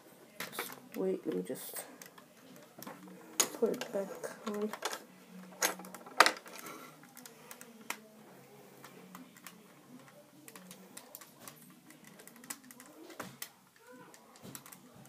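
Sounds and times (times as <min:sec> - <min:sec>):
plastic bricks clicking and knocking: 0:00.4 - 0:08.0, 0:08.8 - 0:15.0.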